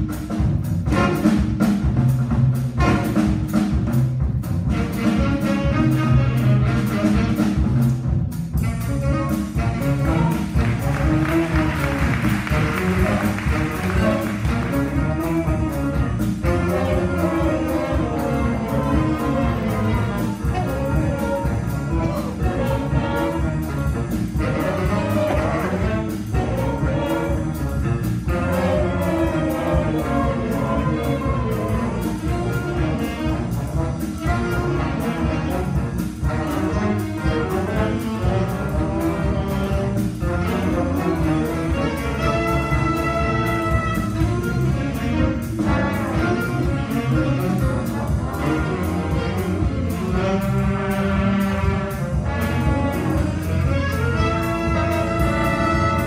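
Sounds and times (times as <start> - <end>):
brass: 0.0 - 56.0
steady drum beat: 0.0 - 56.0
saxophones: 8.6 - 56.0.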